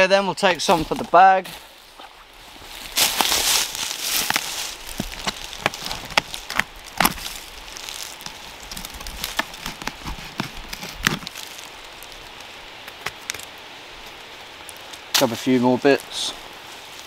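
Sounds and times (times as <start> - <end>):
wood and bark cracking: 2.7 - 17.0.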